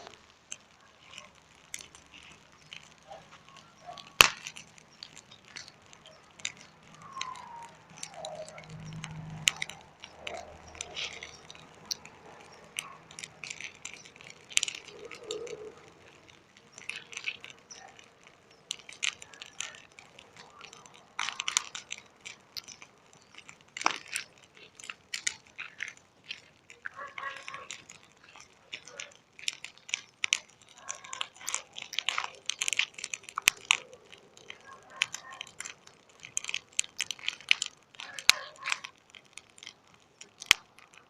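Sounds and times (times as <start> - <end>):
bonfire crackling and popping: 0.0 - 41.0.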